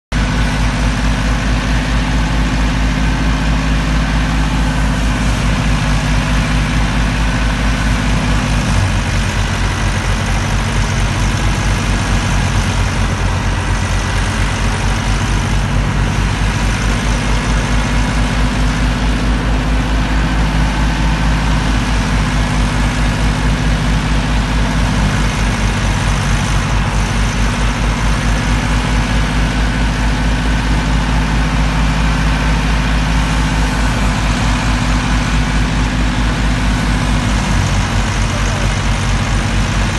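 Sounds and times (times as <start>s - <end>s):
thresher drum running: 0.1s - 39.9s
tractor diesel engine running: 0.1s - 39.9s.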